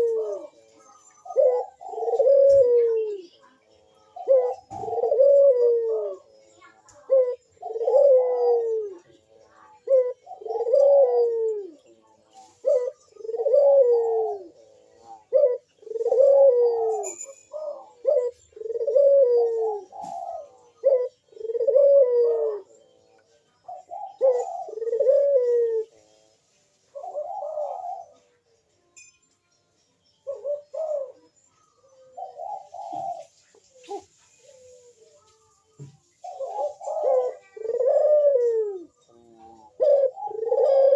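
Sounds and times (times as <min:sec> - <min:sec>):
turtle dove cooing: 0:00.0 - 0:26.3, 0:26.9 - 0:28.6, 0:30.2 - 0:35.3, 0:36.1 - 0:40.9.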